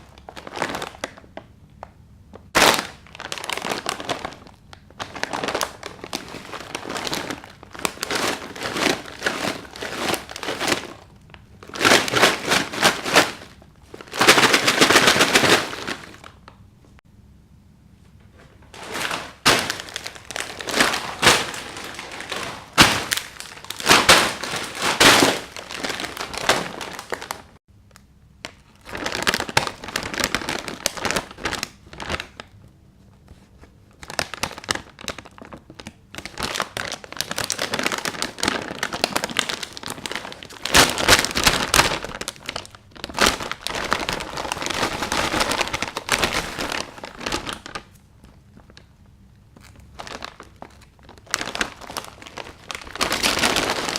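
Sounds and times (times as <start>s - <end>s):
plastic bag crinkling: 0.0s - 1.5s, 2.3s - 16.5s, 18.4s - 27.6s, 28.4s - 32.6s, 33.3s - 53.9s.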